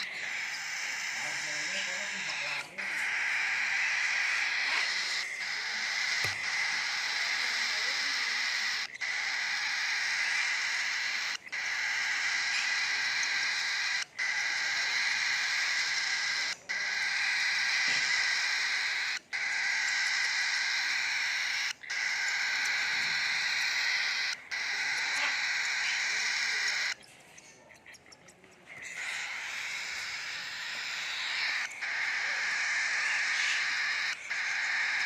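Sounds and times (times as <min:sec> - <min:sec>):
bird chick begging call: 0:00.0 - 0:27.0, 0:28.8 - 0:35.0.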